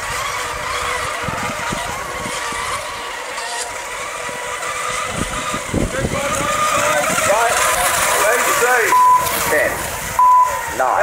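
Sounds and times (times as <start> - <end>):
high-pitched boat motor whine: 0.0 - 11.0.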